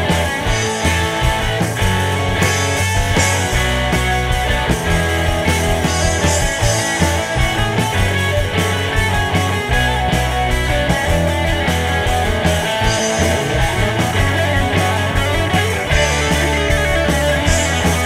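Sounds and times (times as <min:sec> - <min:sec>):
rock band music: 0:00.0 - 0:18.0.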